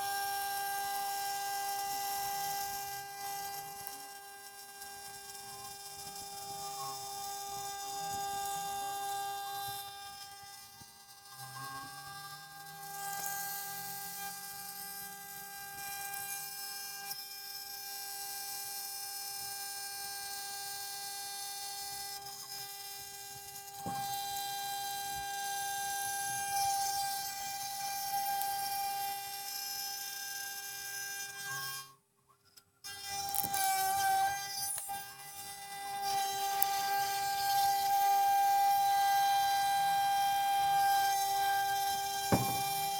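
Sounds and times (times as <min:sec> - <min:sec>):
router spindle whining: 0:00.0 - 0:31.8, 0:32.8 - 0:42.9.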